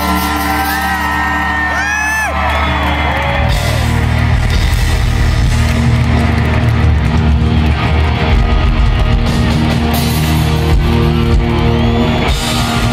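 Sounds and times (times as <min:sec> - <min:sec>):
drum kit: 0:00.0 - 0:12.9
electric guitars: 0:00.0 - 0:12.9.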